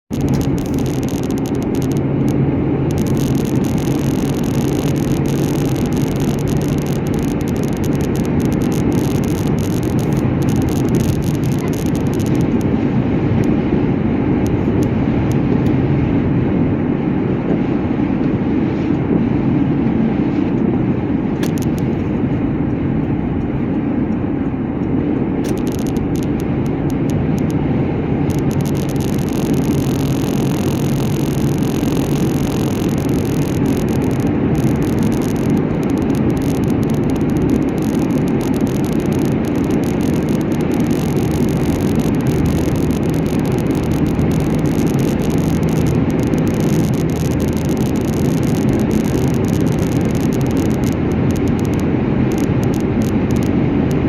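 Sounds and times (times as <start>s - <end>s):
low hum: 0.0s - 54.0s
vehicle engine and road noise: 0.0s - 54.0s.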